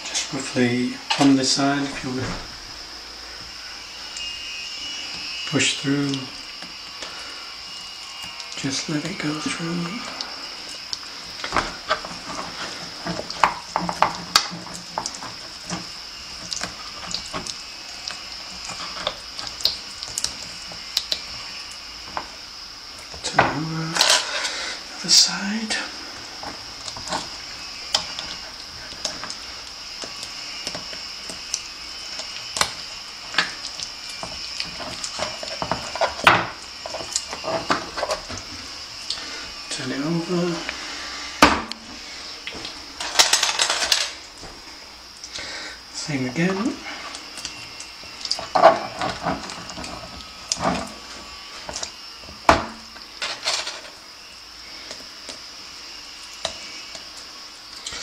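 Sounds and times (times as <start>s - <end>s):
high-pitched whine: 0.0s - 58.0s.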